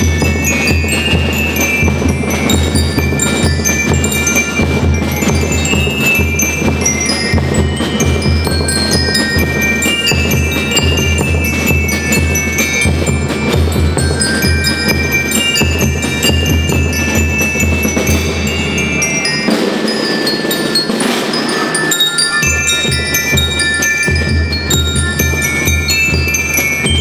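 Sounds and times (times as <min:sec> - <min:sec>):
snare and bass drums: 0:00.0 - 0:21.6, 0:22.4 - 0:27.0
bell lyres melody: 0:00.0 - 0:27.0.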